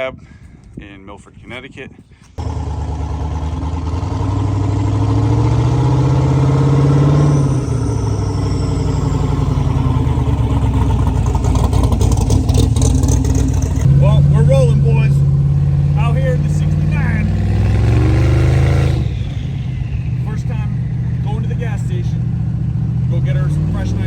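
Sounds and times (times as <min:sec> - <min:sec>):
car engine accelerating: 0:02.4 - 0:24.0.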